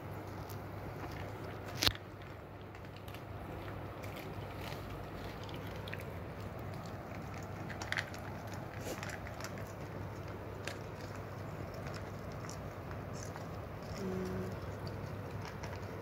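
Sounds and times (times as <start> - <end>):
dogs chewing kibble: 0.0 - 16.0.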